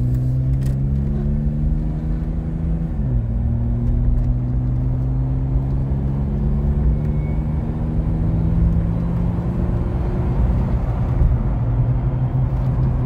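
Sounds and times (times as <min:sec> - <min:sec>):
tyre and road rumble: 0:00.0 - 0:13.0.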